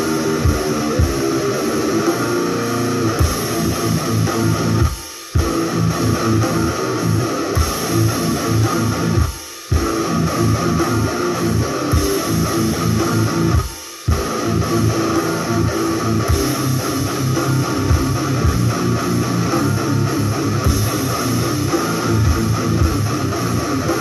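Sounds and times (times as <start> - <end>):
distorted electric guitar riffs: 0.0 - 24.0.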